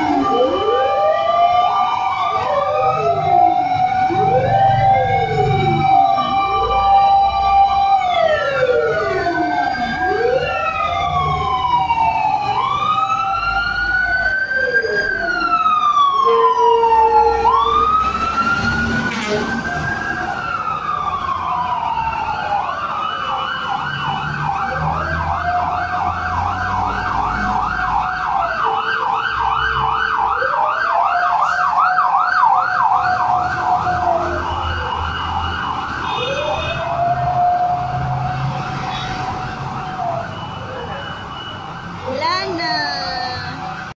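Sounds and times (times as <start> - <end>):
siren fast warbling yelp: 0.0 - 43.7
fire truck sirens wailing: 0.0 - 44.0
truck engine noise: 0.0 - 44.0.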